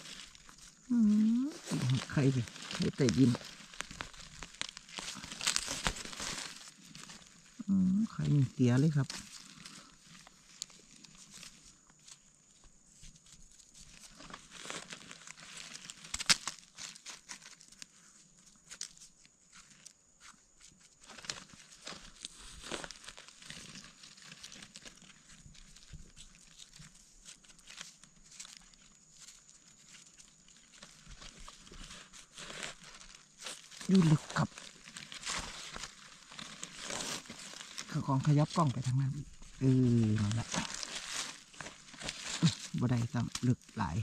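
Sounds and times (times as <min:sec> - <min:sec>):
knife scraping soil and leaves: 0:00.0 - 0:44.0.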